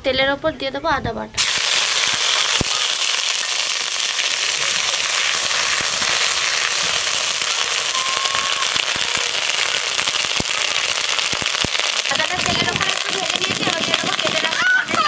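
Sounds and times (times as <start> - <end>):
paste sizzling in hot oil: 1.4 - 15.0.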